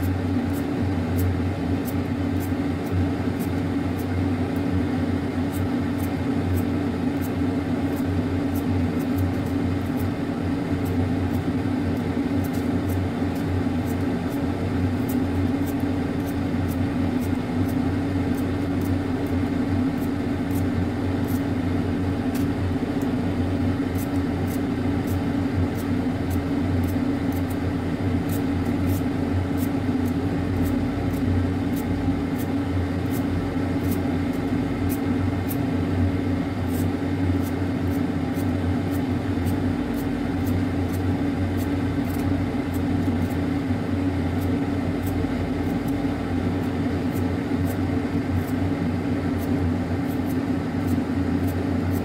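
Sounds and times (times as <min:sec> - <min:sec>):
loud mechanical hum: 0:00.0 - 0:52.0.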